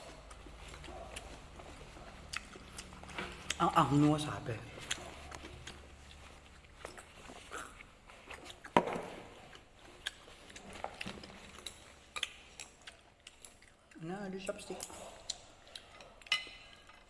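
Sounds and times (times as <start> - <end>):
chewing and mouth noises: 0.0 - 17.0.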